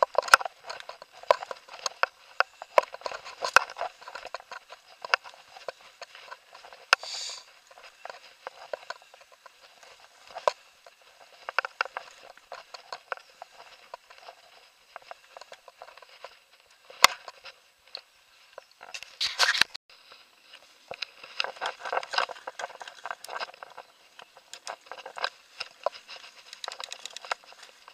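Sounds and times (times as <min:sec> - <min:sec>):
walking noise: 0:00.0 - 0:27.9.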